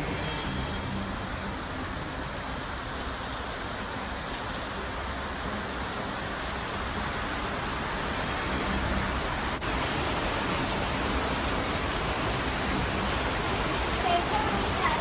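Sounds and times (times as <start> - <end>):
running water in a cave: 0.0 - 15.0.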